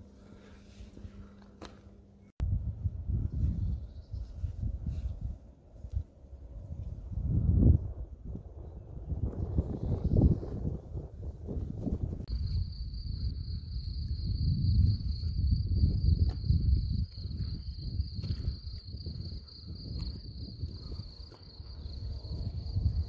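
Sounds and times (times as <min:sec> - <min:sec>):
wind buffeting microphone: 0:02.4 - 0:23.0.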